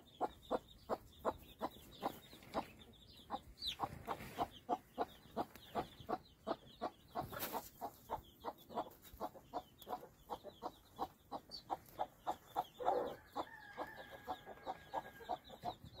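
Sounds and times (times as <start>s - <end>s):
chicks peeping: 0.0s - 16.0s
hen clucking: 0.0s - 16.0s.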